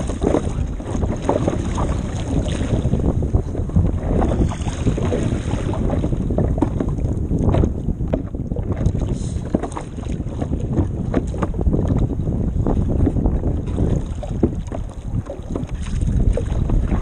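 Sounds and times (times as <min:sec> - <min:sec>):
water slapping against board: 0:00.0 - 0:03.0, 0:03.7 - 0:17.0
wind buffeting microphone: 0:00.0 - 0:17.0.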